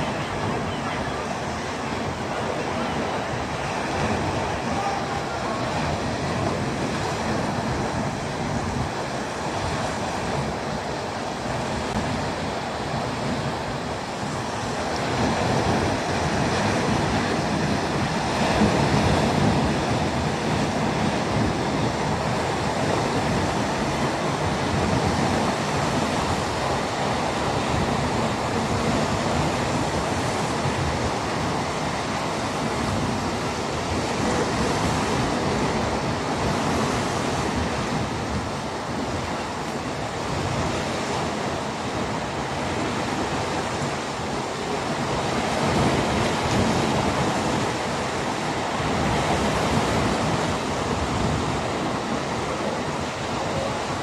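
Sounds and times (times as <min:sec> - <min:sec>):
small waves washing ashore: 0:00.0 - 0:54.0.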